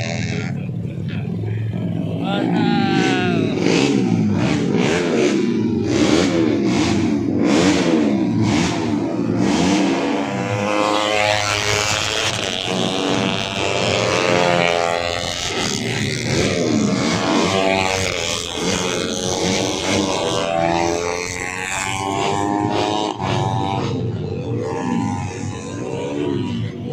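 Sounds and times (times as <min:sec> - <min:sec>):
racing motorcycles at high revs: 0:00.0 - 0:26.9.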